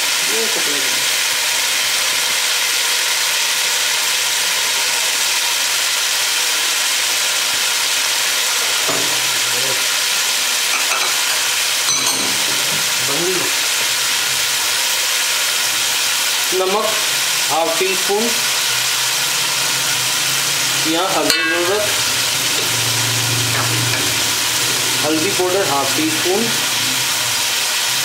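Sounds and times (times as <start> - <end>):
chicken frying in hot oil: 0.0 - 28.0.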